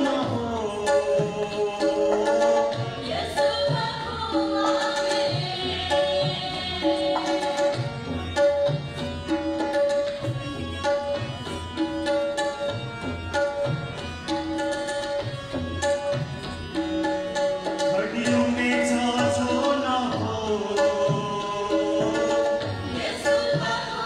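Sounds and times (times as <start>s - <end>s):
harmonium melody: 0.0s - 24.0s
tabla rhythm: 0.0s - 24.0s.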